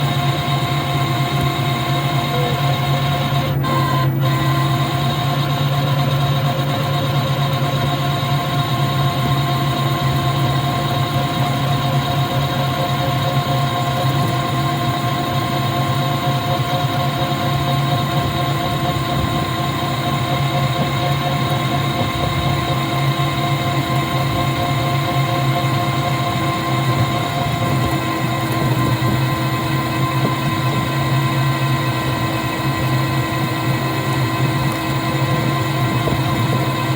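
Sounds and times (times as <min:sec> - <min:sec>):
electric motor hum and whine: 0:00.0 - 0:36.9.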